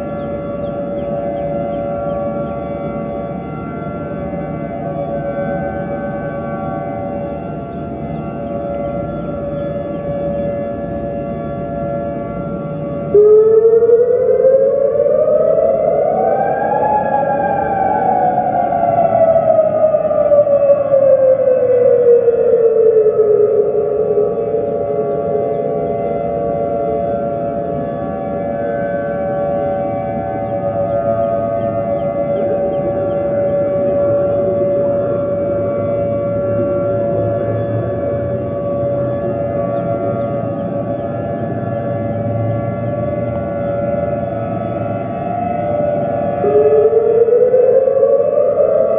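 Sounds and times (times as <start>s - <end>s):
rising siren tone: 0.0s - 48.9s.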